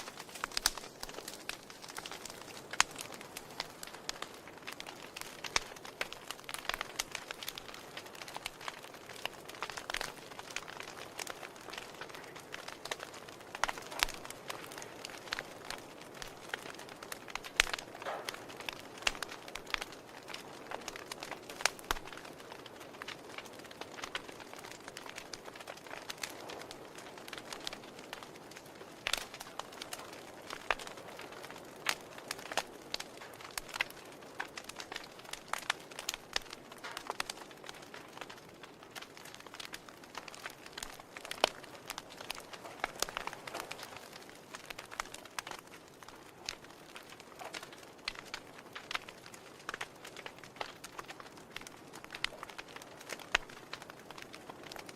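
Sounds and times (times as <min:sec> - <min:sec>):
soft steady hiss: 0:00.0 - 0:54.9
wood fire crackling and popping: 0:00.0 - 0:54.9.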